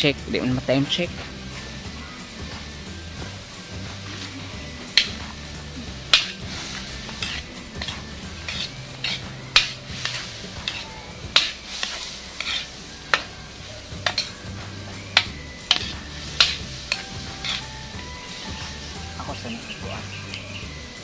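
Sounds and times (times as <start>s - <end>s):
utensil scraping a cooking pan: 0.3s - 21.0s.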